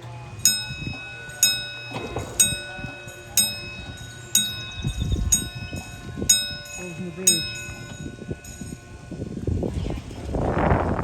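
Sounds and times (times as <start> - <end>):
warning bell striking: 0.4 - 9.4.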